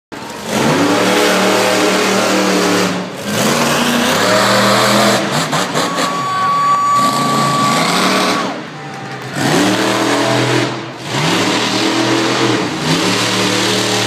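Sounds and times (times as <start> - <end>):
truck engine revving: 0.1 - 14.0.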